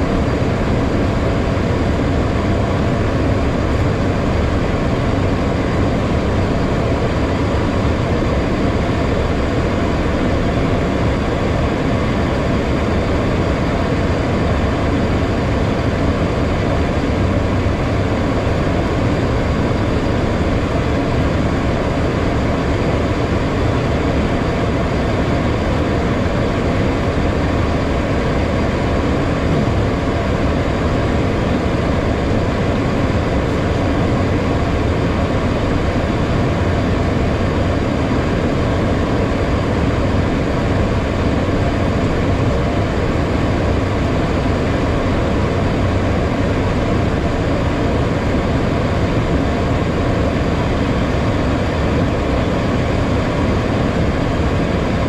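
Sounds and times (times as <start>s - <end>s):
air rushing in cockpit: 0.0s - 55.0s
jet engines humming: 0.0s - 55.0s.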